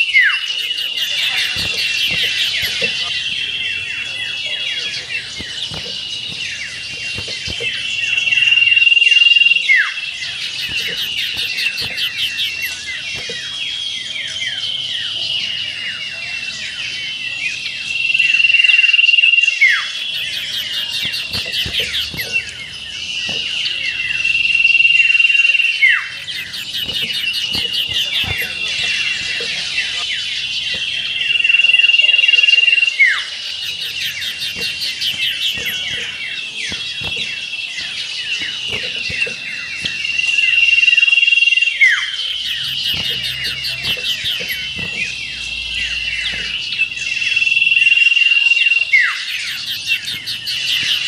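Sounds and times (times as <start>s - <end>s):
bird whistling song: 0.0s - 51.0s
fast high bird trilling: 0.1s - 9.5s, 10.1s - 14.1s, 19.7s - 48.3s.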